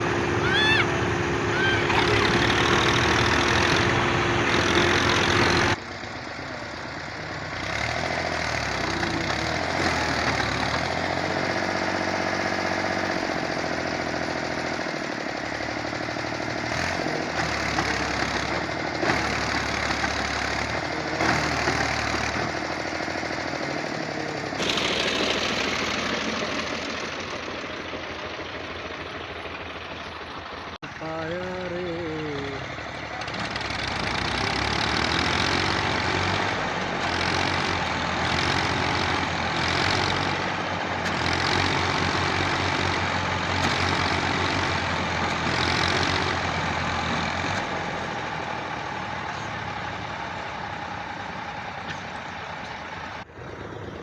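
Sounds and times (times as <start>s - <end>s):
diesel tractor engine labouring: 0.0s - 54.0s.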